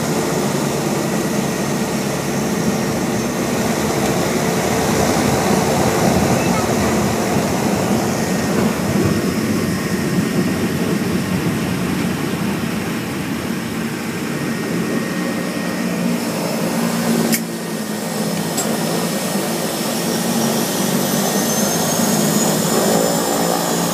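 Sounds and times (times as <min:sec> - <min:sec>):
high whine rising in pitch: 0:00.0 - 0:23.9
propeller engine running: 0:00.0 - 0:23.9.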